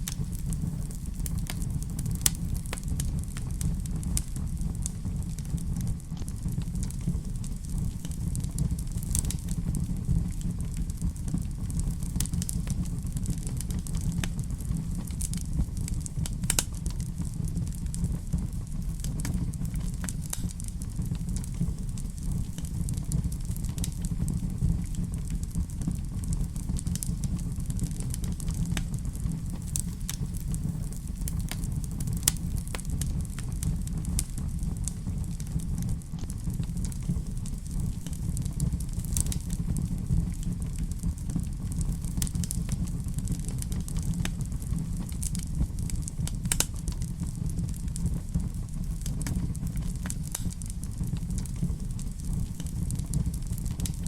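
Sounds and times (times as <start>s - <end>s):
fire crackling in fireplace: 0.0s - 54.0s.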